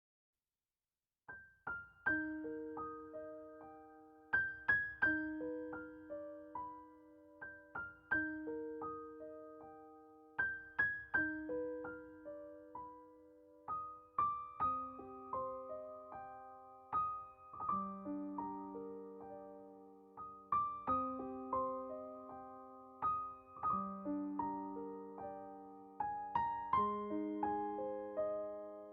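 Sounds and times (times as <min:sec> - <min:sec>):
solo piano arpeggios: 0:01.3 - 0:28.9.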